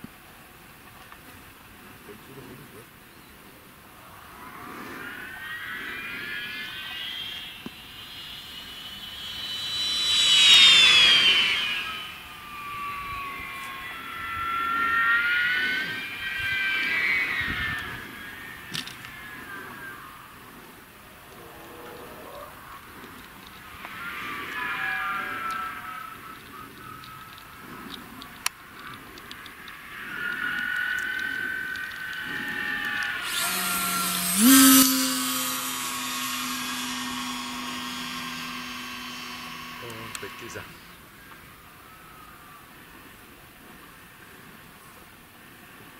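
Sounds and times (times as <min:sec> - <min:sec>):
model glider whining past: 0:03.6 - 0:44.7.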